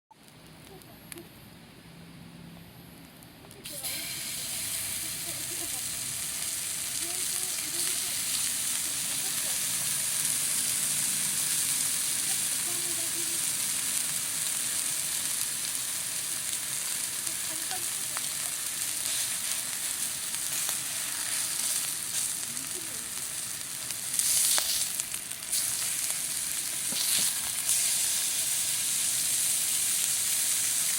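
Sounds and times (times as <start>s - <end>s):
food sizzling in a frying pan: 3.4s - 30.9s.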